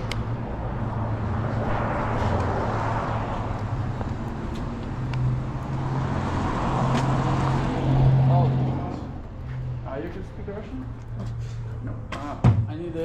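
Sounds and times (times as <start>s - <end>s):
car engine hum: 0.0s - 12.1s
road noise: 0.0s - 13.0s.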